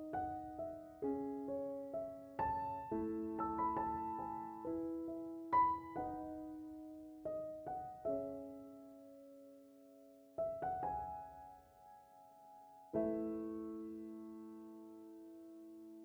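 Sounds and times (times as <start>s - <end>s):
slow gentle solo piano: 0.0s - 16.0s.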